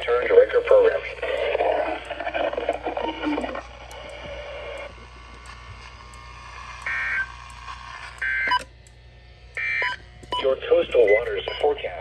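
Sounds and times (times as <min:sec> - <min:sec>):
buzzy digital data tones: 0:00.0 - 0:08.6, 0:09.6 - 0:12.0
radio receiver hiss and hum: 0:00.0 - 0:12.0.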